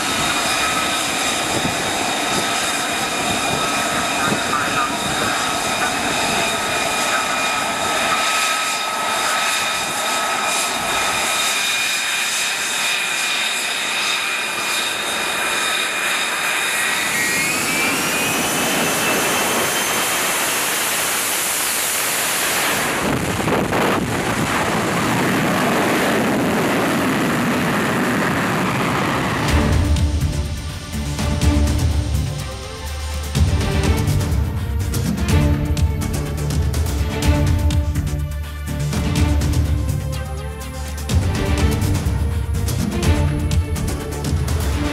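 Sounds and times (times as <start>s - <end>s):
jet engine whine: 0.0s - 44.9s
jet takeoff roar: 0.0s - 44.9s.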